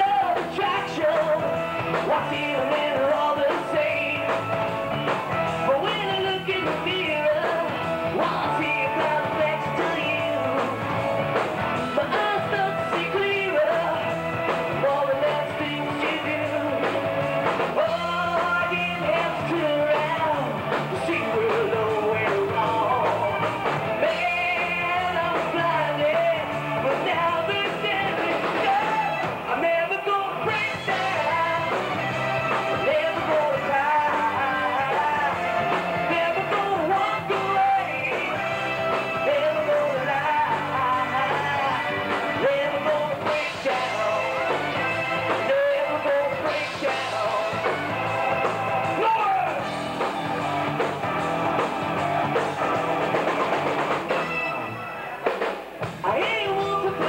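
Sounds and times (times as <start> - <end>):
person singing into microphone: 0.0 - 4.6, 5.4 - 11.0, 11.8 - 49.8, 56.0 - 57.0
bass guitar: 0.0 - 57.0
drums: 0.0 - 57.0
electric guitar: 0.0 - 57.0.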